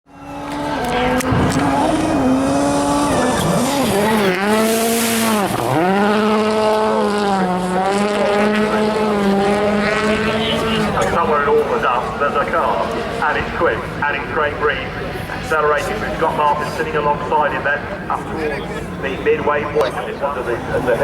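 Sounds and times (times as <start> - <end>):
rally car engine revving: 0.1 - 21.0.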